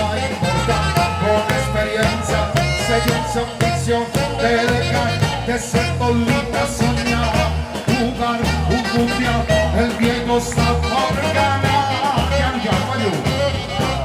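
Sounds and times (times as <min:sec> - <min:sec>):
upbeat band music: 0:00.0 - 0:14.0.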